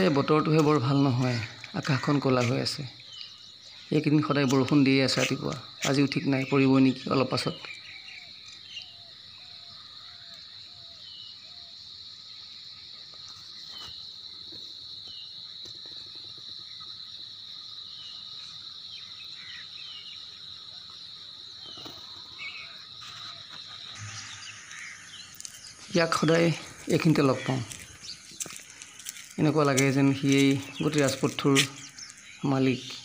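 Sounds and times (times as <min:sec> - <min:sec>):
bird chirps: 0:00.0 - 0:11.8, 0:17.7 - 0:33.0
high-pitched insect drone: 0:00.0 - 0:33.0.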